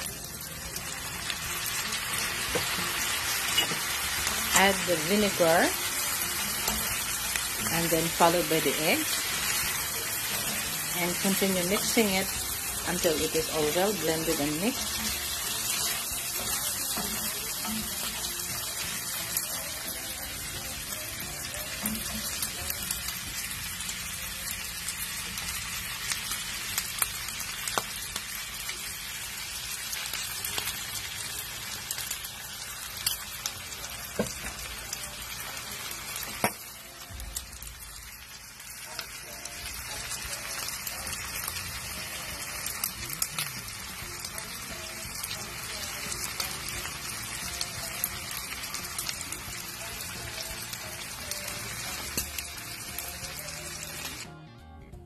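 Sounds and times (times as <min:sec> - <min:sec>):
meat sizzling in a skillet: 0:00.0 - 0:54.3.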